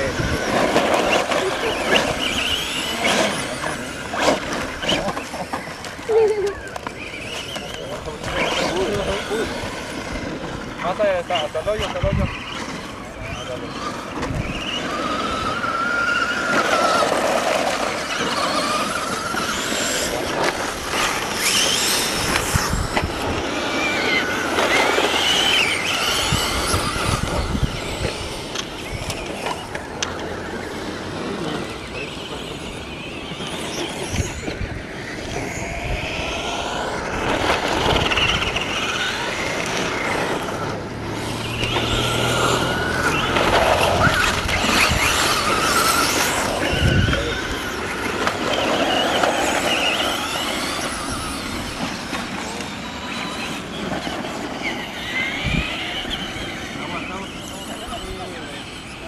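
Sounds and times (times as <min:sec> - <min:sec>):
small motors whining: 0:00.0 - 0:59.0.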